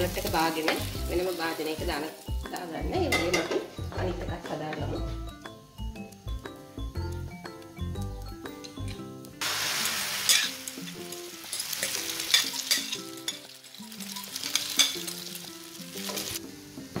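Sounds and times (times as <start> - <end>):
egg sizzling in frying pan: 0.0 - 3.8, 5.2 - 17.0.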